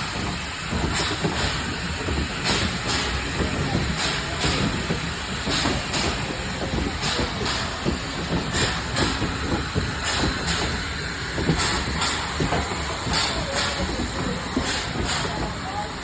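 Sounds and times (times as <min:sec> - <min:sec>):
steam hissing bursts: 0:00.0 - 0:16.0
steam train rumbling: 0:00.0 - 0:16.0.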